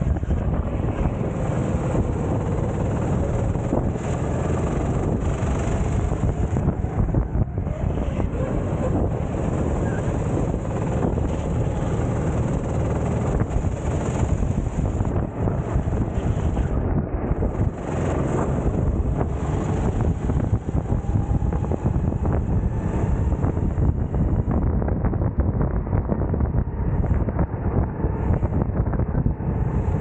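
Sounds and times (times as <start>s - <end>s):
kart engine racing: 0.0s - 24.6s
wind noise on microphone: 0.0s - 30.0s.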